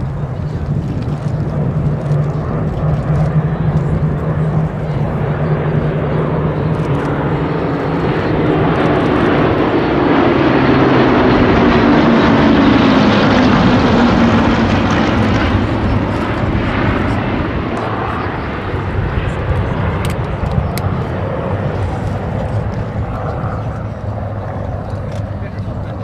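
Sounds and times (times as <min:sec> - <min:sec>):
piston aircraft engines droning: 0:00.0 - 0:26.0.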